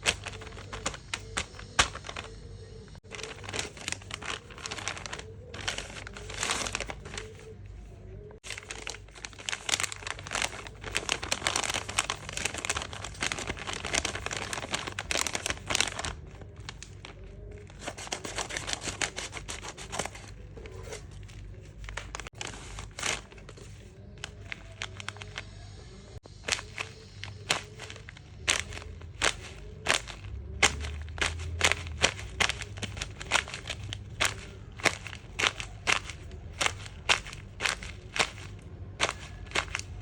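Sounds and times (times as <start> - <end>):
plastic packaging crinkling: 0.0 - 25.6, 26.2 - 40.0.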